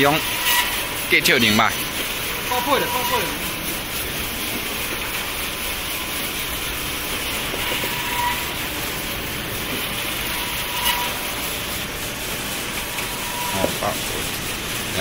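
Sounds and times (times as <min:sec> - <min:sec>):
band saw cutting machine running: 0:00.0 - 0:15.0.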